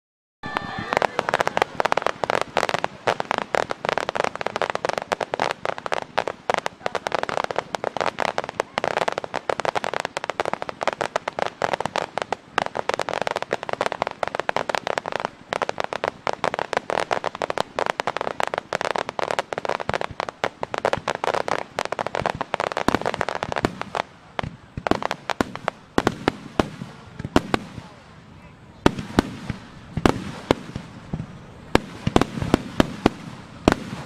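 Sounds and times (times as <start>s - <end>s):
fireworks crackling: 0.4s - 34.0s.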